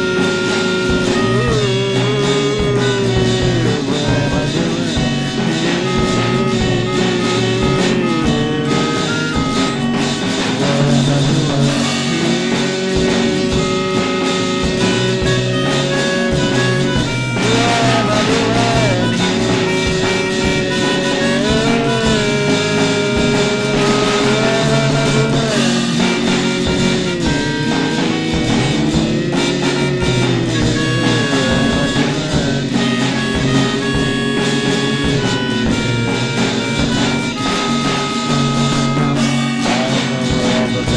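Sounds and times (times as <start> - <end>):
instrumental music with sliding melody: 0.0 - 40.9.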